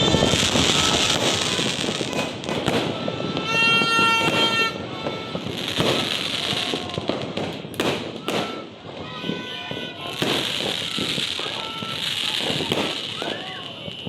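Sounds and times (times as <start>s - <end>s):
fireworks bangs: 0.0s - 14.0s
fireworks crackling and popping: 0.0s - 14.0s.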